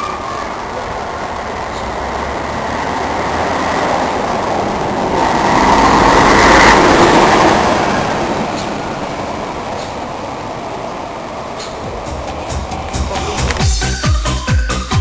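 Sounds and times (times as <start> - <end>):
bus diesel engine passing by: 0.0 - 15.0.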